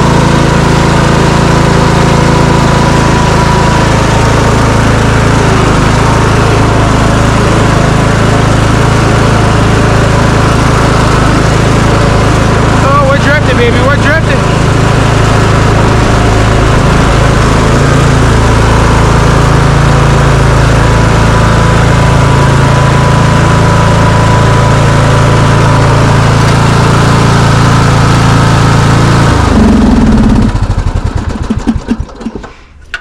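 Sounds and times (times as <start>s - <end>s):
riding lawn mower engine: 0.0s - 33.0s.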